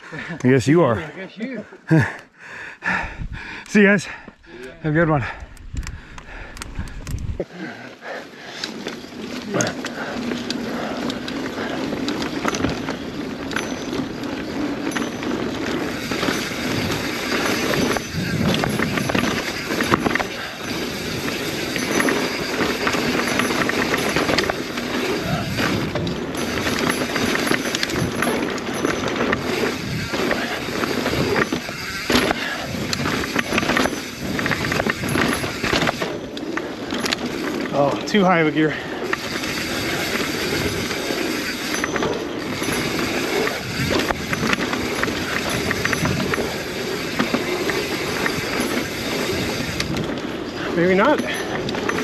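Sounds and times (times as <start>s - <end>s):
bike rattling and clicking: 1.9s - 52.0s
bike tyres rolling over rocks: 8.0s - 52.0s.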